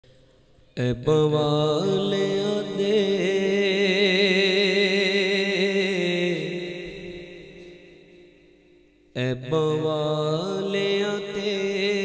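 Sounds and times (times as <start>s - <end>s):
man singing devotional song: 0.7s - 12.0s.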